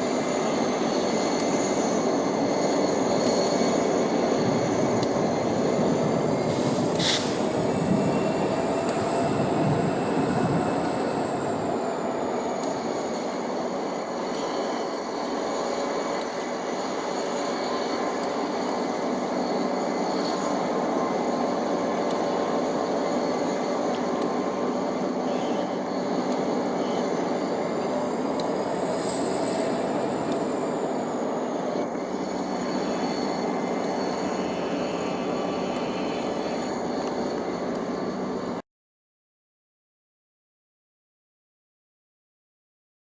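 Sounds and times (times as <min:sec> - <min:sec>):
diesel locomotive engine rumble: 0:00.0 - 0:38.6
high turbo whine: 0:00.0 - 0:38.6.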